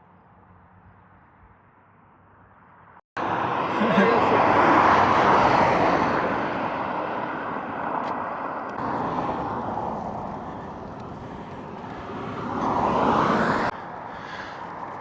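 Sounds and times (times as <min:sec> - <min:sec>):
vehicles passing by: 0:02.6 - 0:15.0.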